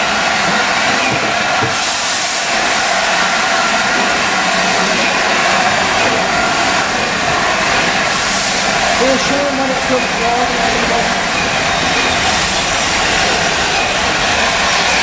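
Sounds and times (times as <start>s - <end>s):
steam train rushing noise: 0.0s - 15.0s.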